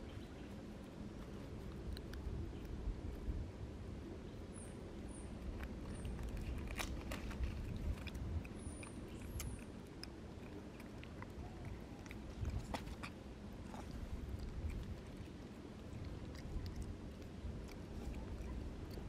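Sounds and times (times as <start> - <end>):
monkeys chewing food: 0.1 - 2.8, 5.4 - 19.0.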